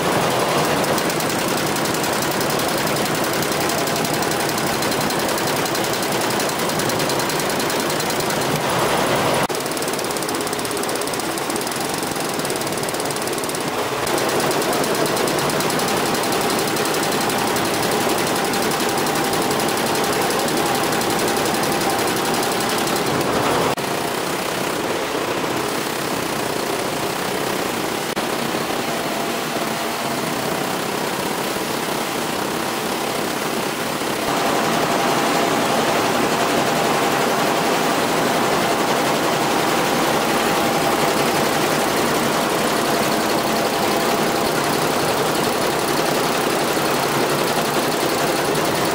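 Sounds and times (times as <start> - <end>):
embroidery machine clattering: 0.0 - 48.9.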